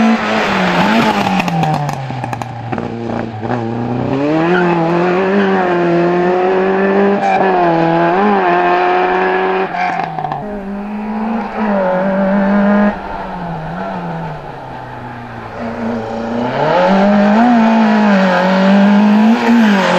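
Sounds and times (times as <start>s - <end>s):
race car engine revving: 0.0s - 19.9s.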